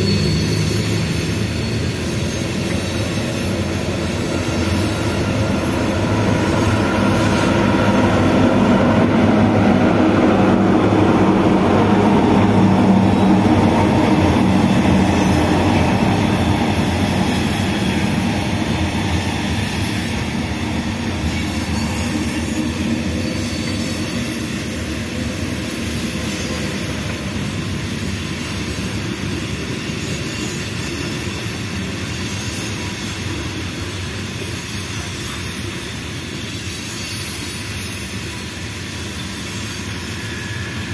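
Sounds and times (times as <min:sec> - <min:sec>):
diesel locomotive engine drone: 0:00.0 - 0:40.9
train wheels rolling on rail: 0:00.0 - 0:40.9.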